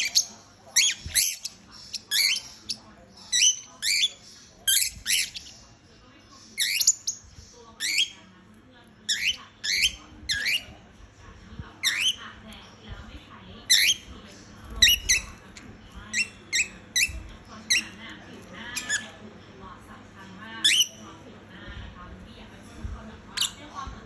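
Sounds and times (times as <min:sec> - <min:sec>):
pet birds squawking: 0:00.0 - 0:08.4, 0:09.0 - 0:11.0, 0:11.7 - 0:19.3, 0:20.5 - 0:21.2, 0:23.1 - 0:24.0.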